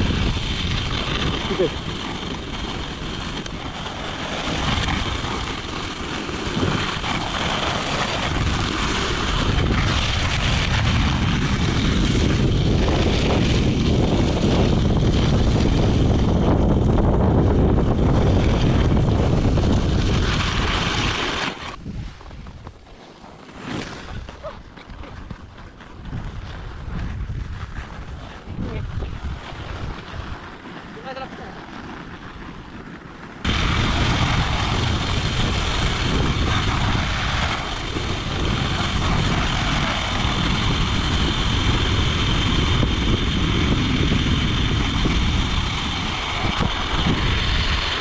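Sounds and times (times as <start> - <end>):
wind buffeting microphone: 0.0 - 22.8, 24.0 - 48.0
skates scraping snow: 0.0 - 48.0.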